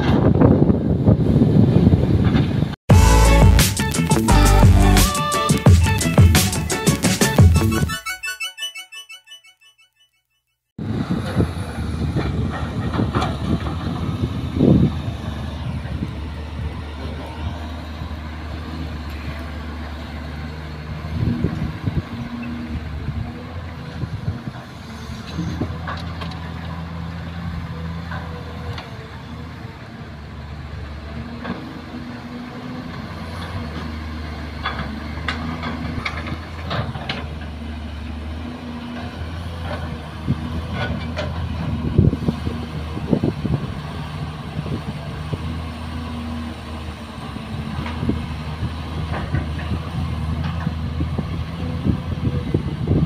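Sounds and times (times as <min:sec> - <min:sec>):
excavator diesel engine under load: 0:00.0 - 0:07.9, 0:10.8 - 0:53.0.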